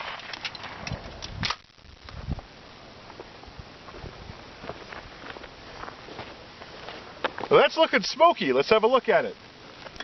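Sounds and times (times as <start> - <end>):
faint outdoor noise: 0.0 - 10.0.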